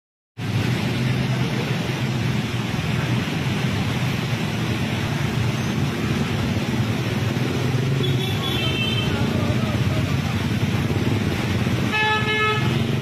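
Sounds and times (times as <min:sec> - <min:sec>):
floodwater rushing past concrete: 0:00.4 - 0:13.0.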